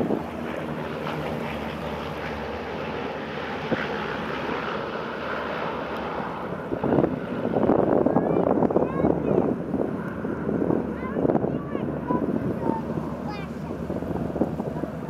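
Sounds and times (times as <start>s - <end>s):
propeller engines running: 0.0s - 15.0s.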